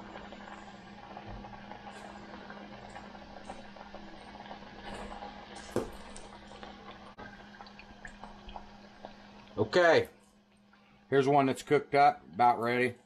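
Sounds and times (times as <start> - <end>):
deep-frying crackling sizzle: 0.0 - 10.9
low steady hum: 0.0 - 13.0.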